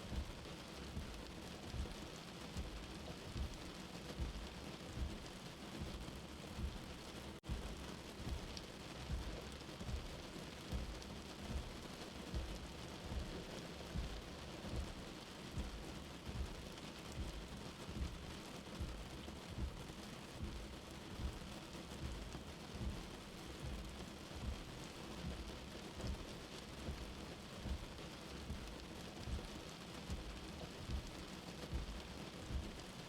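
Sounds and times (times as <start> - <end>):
soft low heartbeat: 0.0 - 33.0
steady rain: 0.0 - 33.0.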